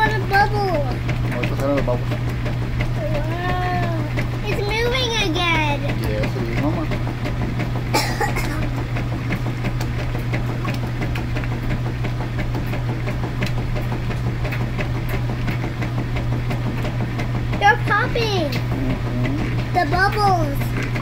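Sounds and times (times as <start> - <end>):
washing machine motor hum: 0.0 - 21.0
water and fabric churning: 0.0 - 21.0.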